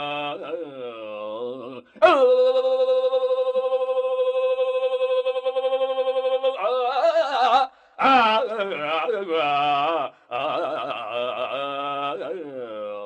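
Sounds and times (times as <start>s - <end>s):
man singing a verse: 0.0s - 13.0s.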